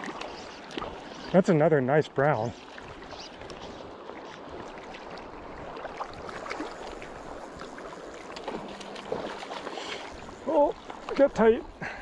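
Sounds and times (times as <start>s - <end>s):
river current rippling: 0.0s - 12.0s.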